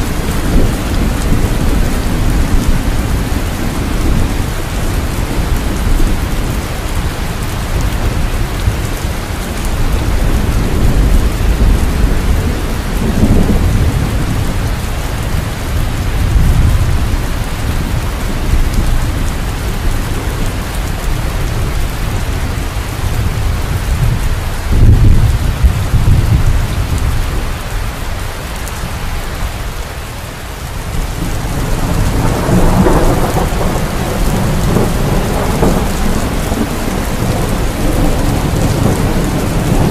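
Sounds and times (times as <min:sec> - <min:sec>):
rolling thunder: 0:00.0 - 0:27.6, 0:30.8 - 0:39.9
heavy rain: 0:00.0 - 0:39.9.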